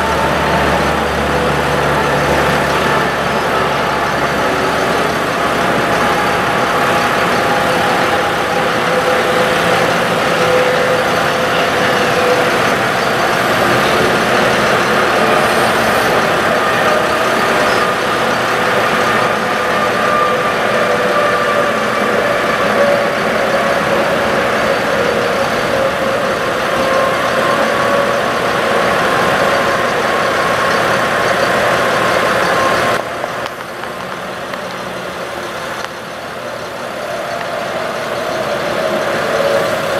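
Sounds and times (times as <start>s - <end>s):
diesel truck engine running: 0.0s - 39.9s
hydraulic pump whine: 0.0s - 39.9s.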